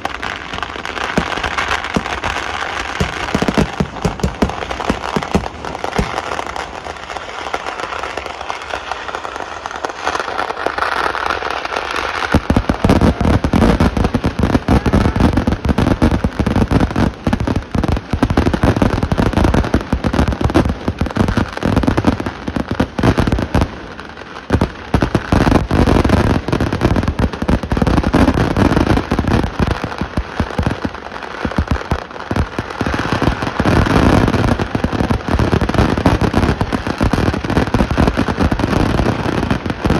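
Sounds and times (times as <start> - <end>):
firecracker and shell explosions: 0.0 - 39.9.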